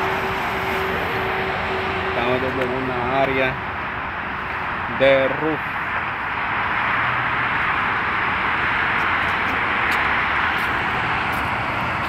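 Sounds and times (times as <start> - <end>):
highway traffic rushing: 0.0 - 12.0.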